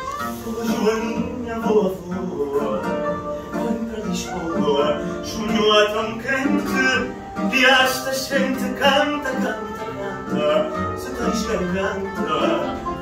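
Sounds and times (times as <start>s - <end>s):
person singing: 0.0s - 13.0s
plucked guitar: 0.0s - 13.0s.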